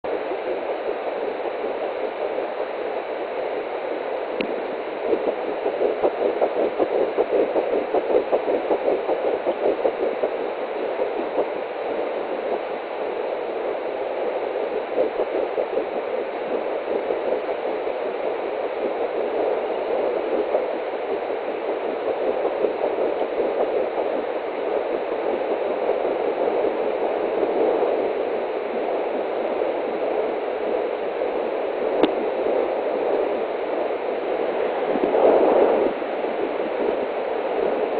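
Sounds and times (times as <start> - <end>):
fast fetal heartbeat pulsing: 0.0 - 37.9.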